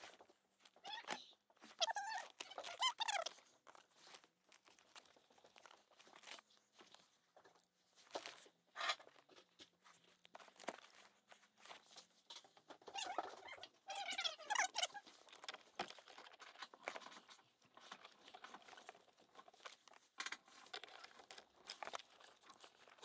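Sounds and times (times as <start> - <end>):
scratchy squeaky handling noise: 0.0 - 23.0
soft rustles and small clicks: 0.0 - 23.0.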